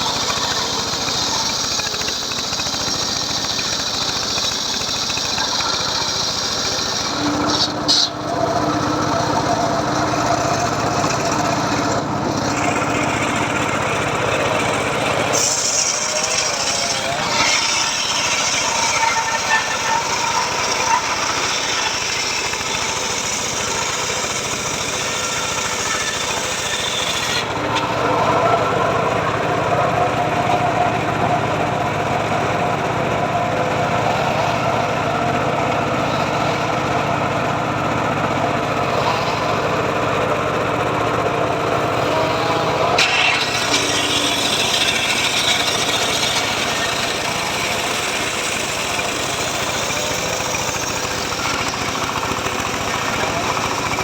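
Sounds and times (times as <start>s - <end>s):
circular saw cutting wood: 0.0s - 54.0s.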